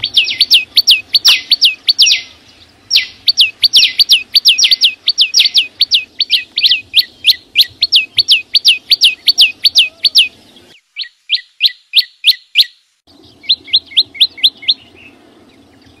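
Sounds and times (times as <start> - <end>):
songbird singing high sharp notes: 0.0 - 16.0.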